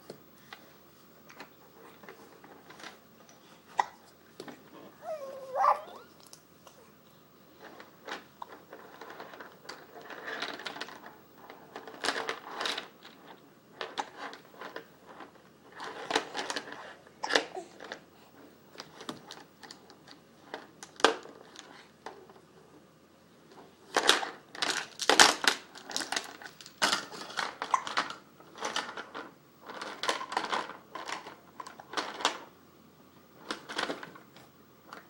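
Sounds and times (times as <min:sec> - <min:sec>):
plastic toys clicking and clattering: 0:01.3 - 0:04.7, 0:07.5 - 0:22.4, 0:23.9 - 0:32.5, 0:33.4 - 0:35.0.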